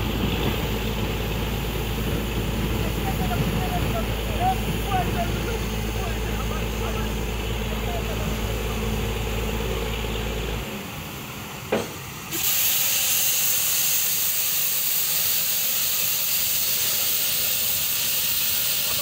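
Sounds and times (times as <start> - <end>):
low engine hum: 0.0 - 15.9
gas hissing from well head: 0.0 - 19.0.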